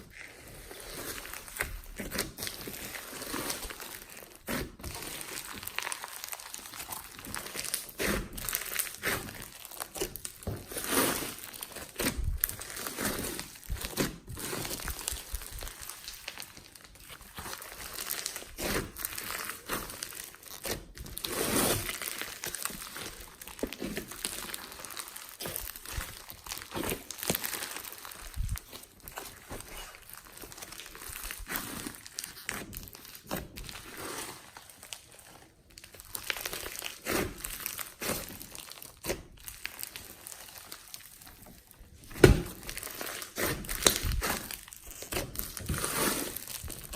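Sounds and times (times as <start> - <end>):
slime crackling and popping: 0.6 - 46.9.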